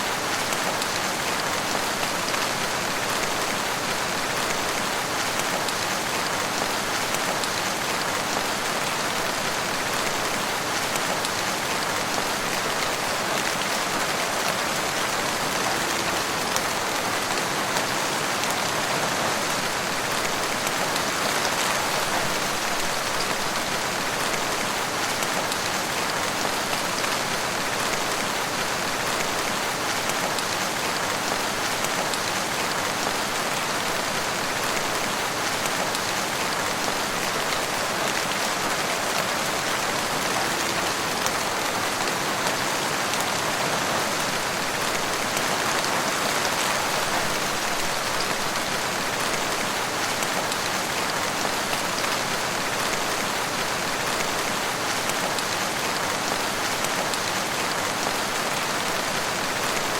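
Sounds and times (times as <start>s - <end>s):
steady rain in a forest: 0.0s - 59.9s.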